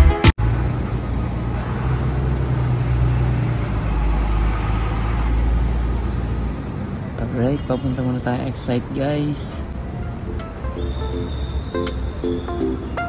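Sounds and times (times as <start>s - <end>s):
road noise hiss: 0.4s - 13.0s
traffic engines rumbling: 0.4s - 13.0s.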